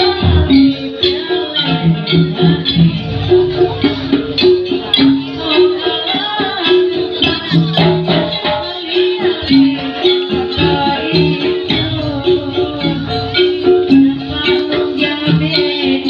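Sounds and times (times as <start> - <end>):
metallophone melody: 0.0 - 16.0
rhythmic percussion: 0.0 - 16.0.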